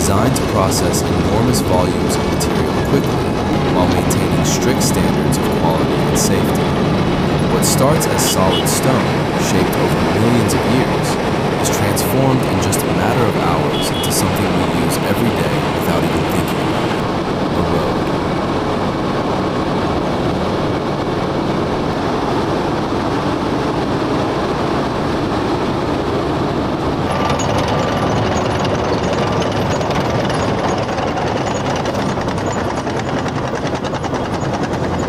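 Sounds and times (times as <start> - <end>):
heavy machinery rumbling: 0.0 - 35.0
rattling machine noise: 0.0 - 35.0.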